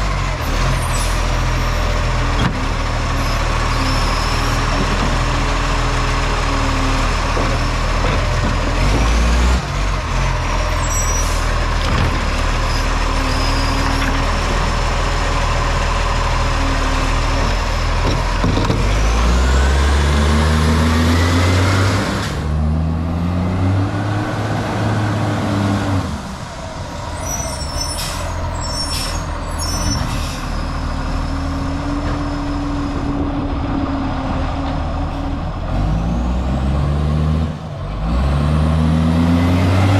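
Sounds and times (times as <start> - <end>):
truck diesel engine running: 0.0 - 39.8.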